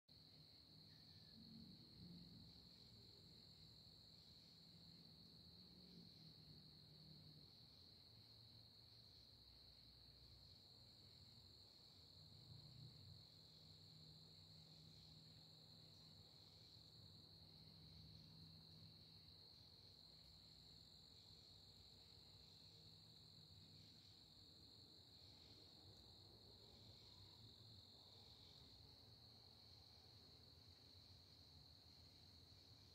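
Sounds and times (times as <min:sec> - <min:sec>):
crickets chirping: 0:00.1 - 0:32.9
high insect trill: 0:00.1 - 0:32.9.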